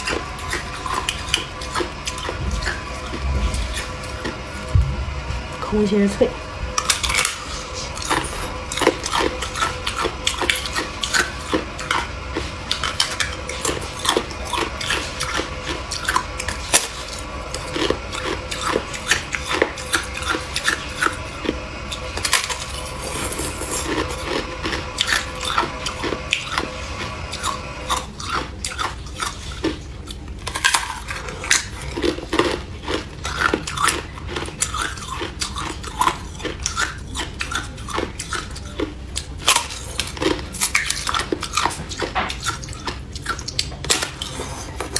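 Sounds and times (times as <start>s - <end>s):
ice being chewed: 0.0s - 4.7s, 6.7s - 44.9s.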